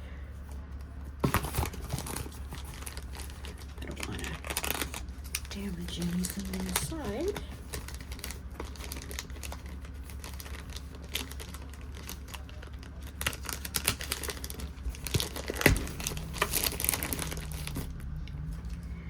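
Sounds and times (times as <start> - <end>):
construction machinery rumble: 0.0 - 19.0
paper and tape crinkling and tearing: 0.4 - 18.8.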